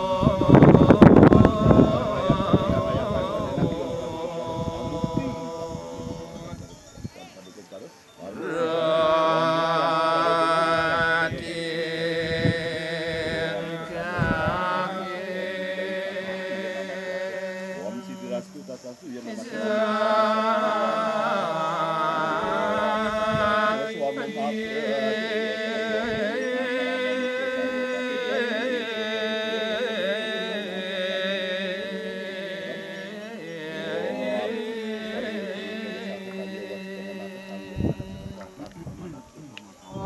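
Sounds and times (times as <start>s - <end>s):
person chanting mantra melody: 0.0s - 6.9s, 8.2s - 40.0s.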